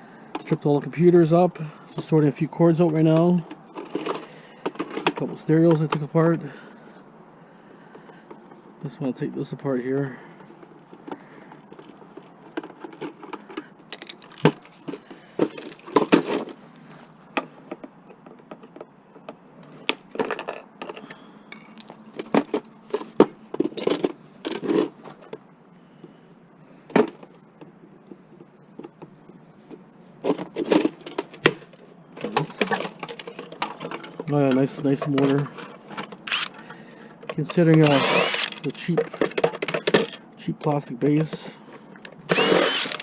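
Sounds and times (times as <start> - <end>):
plastic and metal parts clattering: 0.3 - 6.7, 10.0 - 25.4, 26.9 - 27.4, 28.4 - 43.0.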